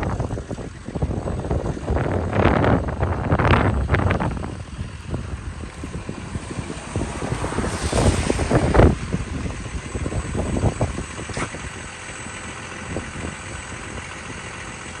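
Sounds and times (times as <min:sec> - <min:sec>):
excavator diesel engine idling: 0:00.0 - 0:15.0.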